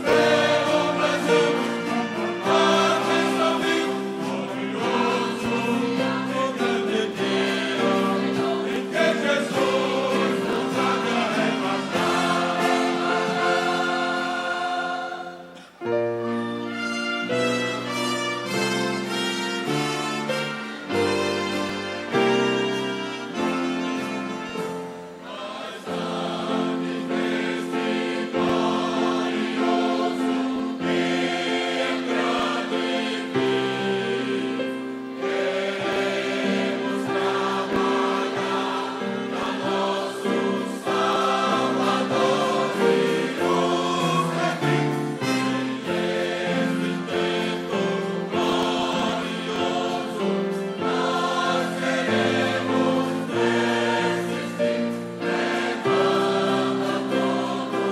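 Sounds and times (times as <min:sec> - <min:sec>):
choir singing gospel song: 0:00.0 - 0:57.9.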